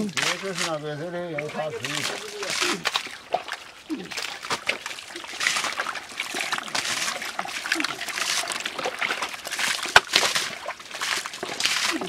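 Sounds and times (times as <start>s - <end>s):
splashing in muddy water: 0.0s - 12.0s.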